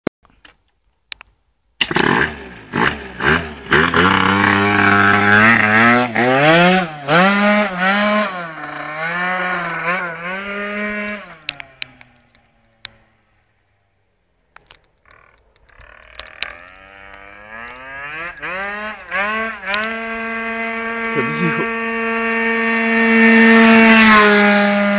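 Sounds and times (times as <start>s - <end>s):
scooter engine revving: 1.8s - 24.9s.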